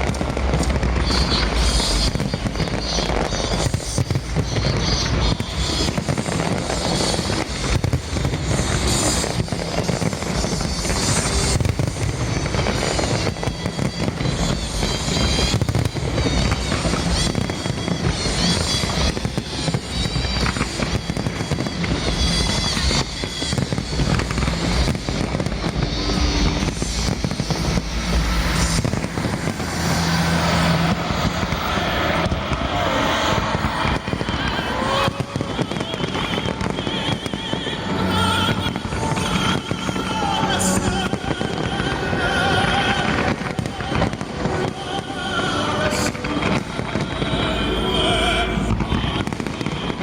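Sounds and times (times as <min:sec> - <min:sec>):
fireworks bursting and crackling: 0:00.0 - 0:50.0
music playing: 0:00.0 - 0:50.0.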